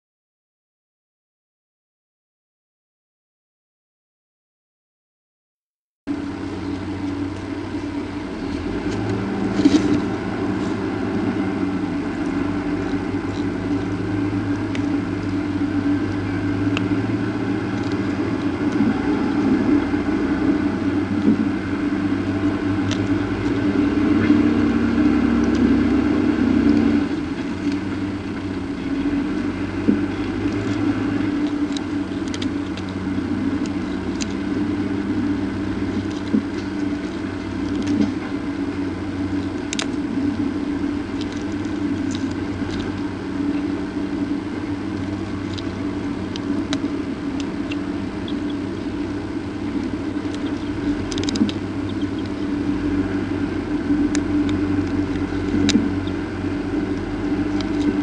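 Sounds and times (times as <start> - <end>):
low drone of held tones: 6.1 - 58.0.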